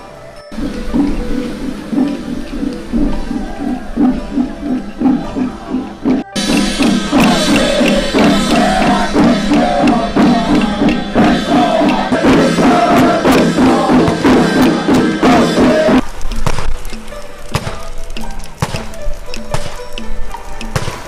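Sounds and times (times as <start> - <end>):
melody: 0.0 - 21.0
steady percussion strokes: 0.0 - 21.0.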